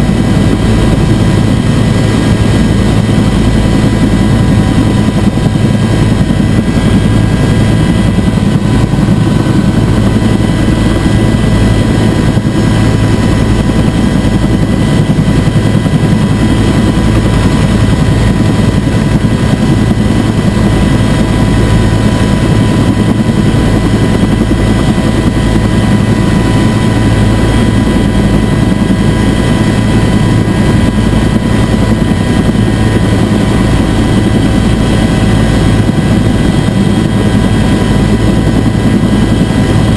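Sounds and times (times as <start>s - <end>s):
helicopter rotor and engine drone: 0.0s - 39.9s
steady whining tones: 0.0s - 39.9s.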